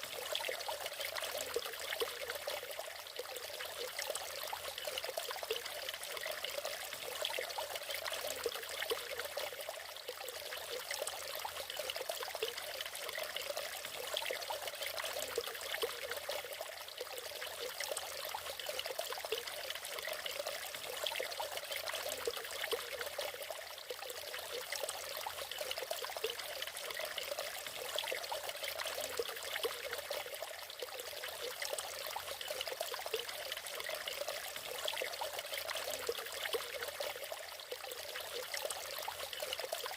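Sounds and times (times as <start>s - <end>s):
waterfall splashing and trickling: 0.0s - 39.9s.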